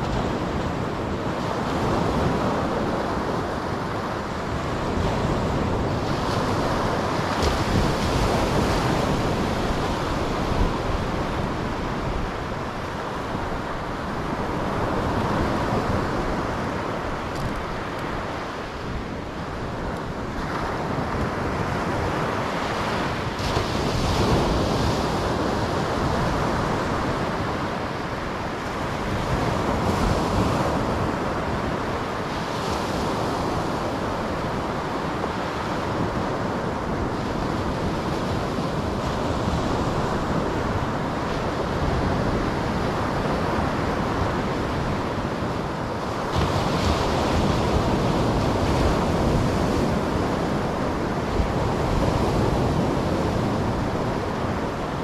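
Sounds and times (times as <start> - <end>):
surf breaking on a beach: 0.0 - 55.0
wind on the microphone: 0.0 - 55.0.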